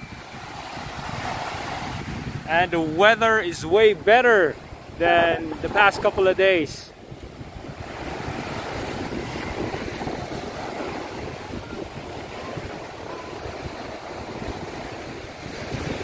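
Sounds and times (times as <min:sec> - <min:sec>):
small waves breaking on beach: 0:00.0 - 0:16.0
wind buffeting microphone: 0:00.0 - 0:16.0.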